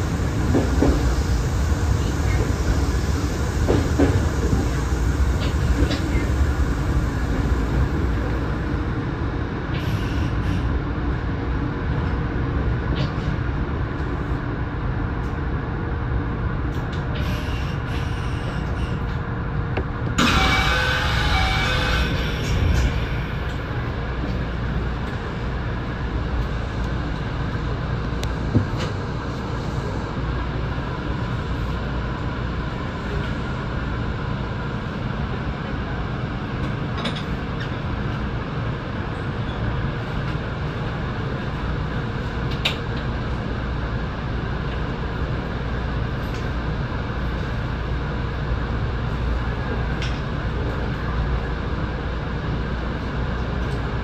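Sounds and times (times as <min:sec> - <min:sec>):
train equipment hum and hiss: 0:00.0 - 0:54.0.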